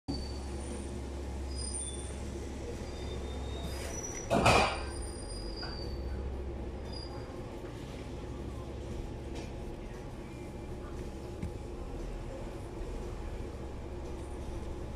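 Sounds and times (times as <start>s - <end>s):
kitchen equipment humming: 0.1s - 14.9s.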